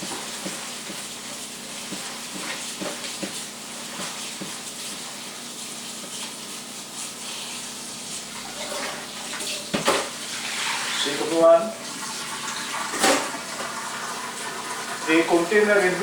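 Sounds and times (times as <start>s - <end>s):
tap water running: 0.0s - 16.0s.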